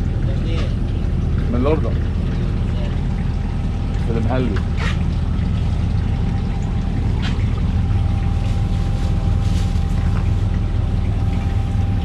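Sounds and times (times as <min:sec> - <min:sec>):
boat engine idling: 0:00.0 - 0:12.0
faint constant whine: 0:00.0 - 0:12.0.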